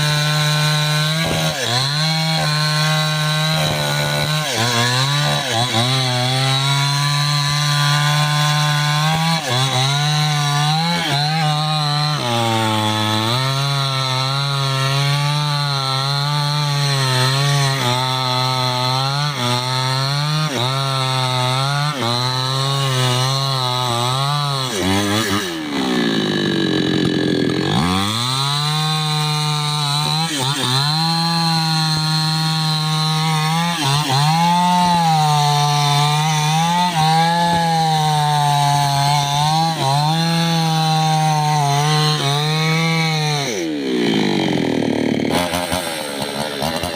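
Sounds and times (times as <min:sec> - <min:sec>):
chainsaw cutting into tree: 0:00.0 - 0:46.9.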